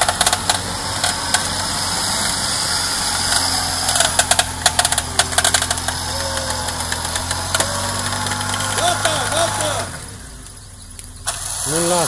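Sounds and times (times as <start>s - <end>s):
engine running steadily: 0.0s - 12.0s
rapid clicks and rattles: 0.0s - 12.0s.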